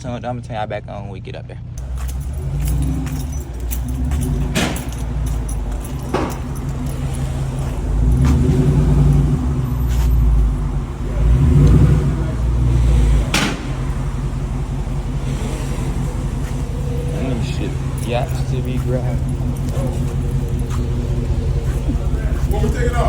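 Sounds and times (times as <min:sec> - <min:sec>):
car engine idling: 0:01.6 - 0:23.0.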